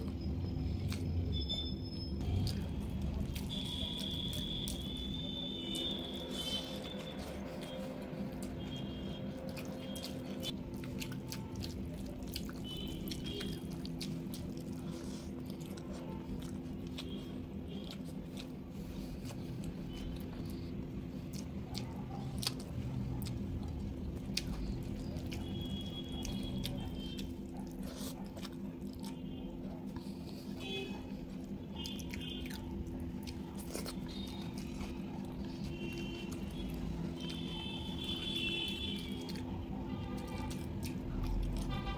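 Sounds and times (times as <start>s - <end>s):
chewing and mouth smacks: 0.0s - 1.5s, 2.2s - 41.9s.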